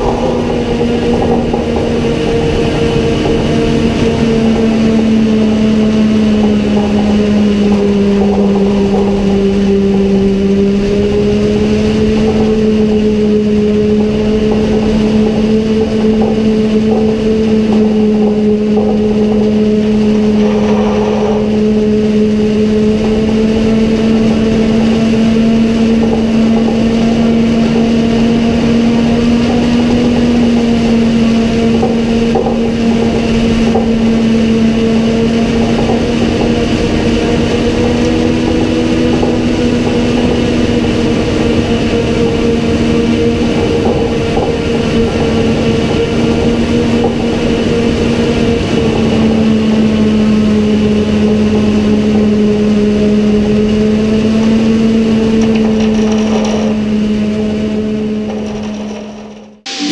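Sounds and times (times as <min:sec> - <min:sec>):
machinery drone: 0:00.0 - 0:59.9.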